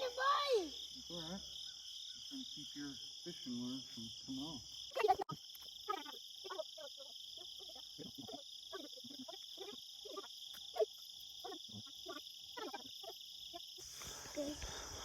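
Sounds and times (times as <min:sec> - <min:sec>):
high insect chorus: 0:00.0 - 0:15.0.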